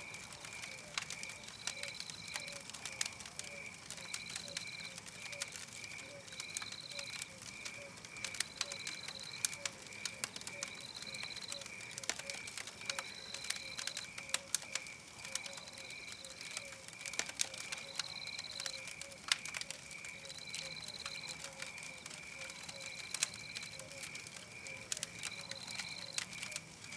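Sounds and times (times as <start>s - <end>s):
wood fire crackling and popping: 0.0s - 26.9s.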